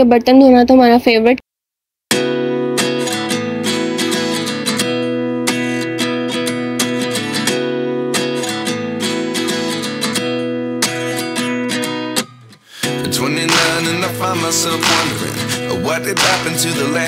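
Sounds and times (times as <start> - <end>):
strummed acoustic guitar: 2.1 - 17.0.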